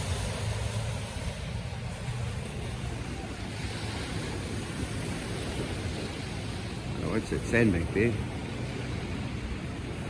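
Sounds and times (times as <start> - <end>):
surf washing on sandy beach: 0.0 - 10.0
wind on microphone: 0.0 - 10.0.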